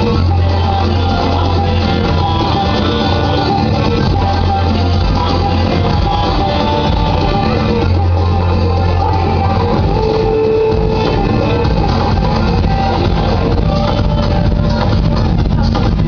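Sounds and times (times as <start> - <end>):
long held bass notes: 0.0 - 16.0
loud music over sound system: 0.0 - 16.0.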